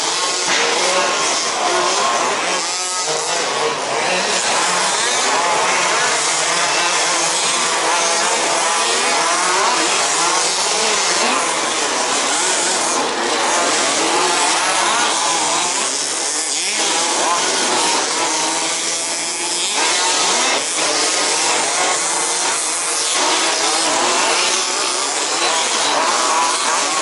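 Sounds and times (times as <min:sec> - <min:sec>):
small engines buzzing and revving: 0:00.0 - 0:27.0.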